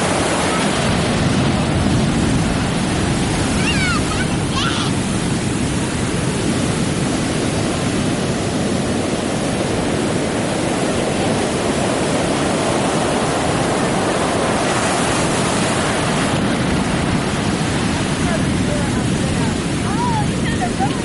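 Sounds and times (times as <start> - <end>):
ocean surf rushing: 0.0 - 21.0.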